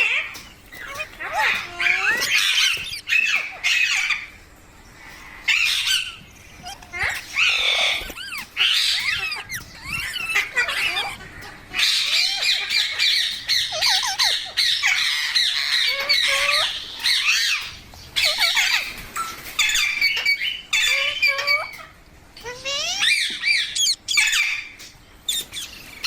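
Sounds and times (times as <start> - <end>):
parrot squawking: 0.0 - 4.4, 5.5 - 19.0, 19.6 - 26.0.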